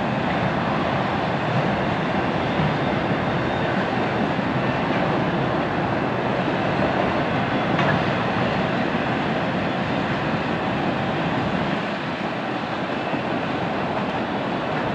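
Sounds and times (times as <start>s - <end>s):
steel wheels on rails: 0.0s - 14.9s.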